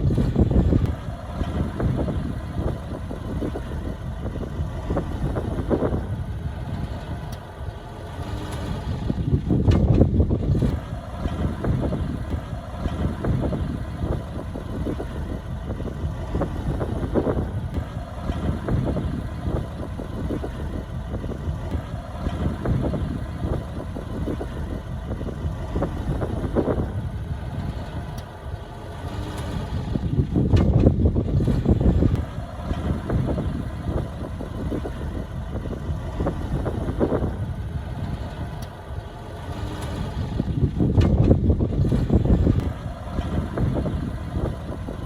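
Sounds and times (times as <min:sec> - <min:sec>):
diesel engine of heavy machinery: 0:00.0 - 0:45.0.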